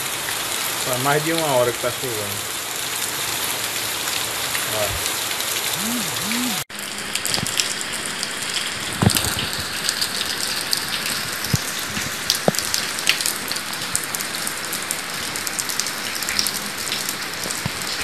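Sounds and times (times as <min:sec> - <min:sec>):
rain on cobblestones: 0:00.0 - 0:05.8, 0:06.7 - 0:18.0
sharp ticks of raindrops: 0:03.0 - 0:18.0.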